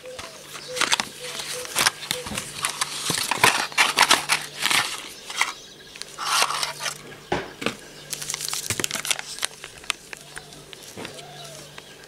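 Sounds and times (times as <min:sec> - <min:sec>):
plastic packets crinkling: 0:00.1 - 0:07.0, 0:08.1 - 0:11.9.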